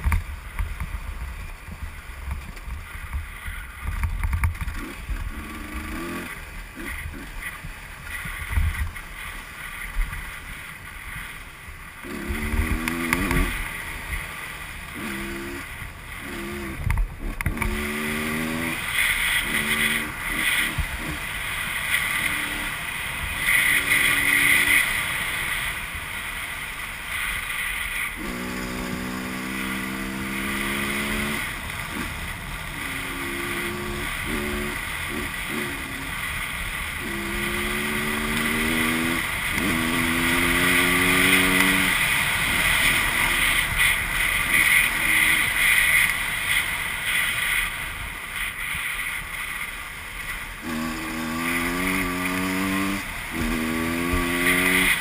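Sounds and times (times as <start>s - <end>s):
motorcycle engine revving: 2.1s - 55.0s.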